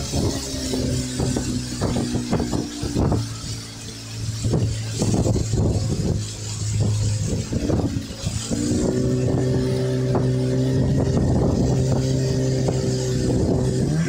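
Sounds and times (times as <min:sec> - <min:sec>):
rush of wind and water: 0:00.0 - 0:14.0
speedboat engine running: 0:00.0 - 0:14.0.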